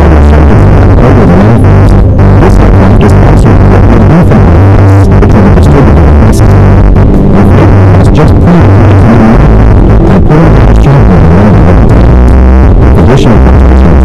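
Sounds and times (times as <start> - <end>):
distorted bass-boosted rumble: 0.0 - 14.0.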